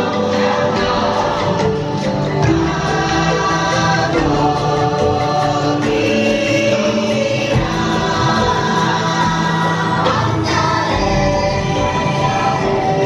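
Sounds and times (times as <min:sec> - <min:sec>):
choir singing held chords: 0:00.0 - 0:13.0
instrumental backing: 0:00.0 - 0:13.0.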